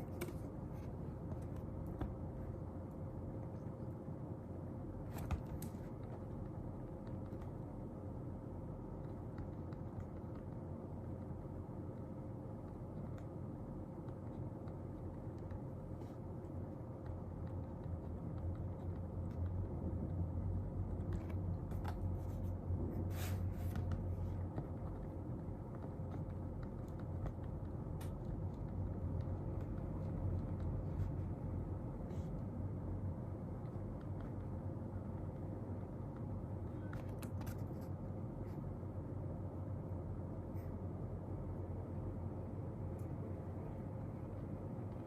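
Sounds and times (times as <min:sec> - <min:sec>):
faint constant tone: 0:00.0 - 0:45.0
low room hum: 0:00.0 - 0:45.0.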